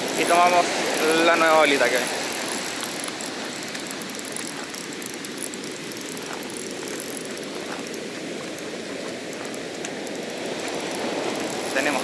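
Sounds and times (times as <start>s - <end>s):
waves breaking on a sandy beach: 0.0s - 12.0s.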